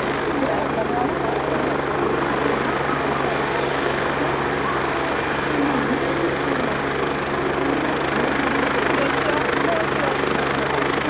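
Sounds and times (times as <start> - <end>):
helicopter running: 0.0 - 11.0.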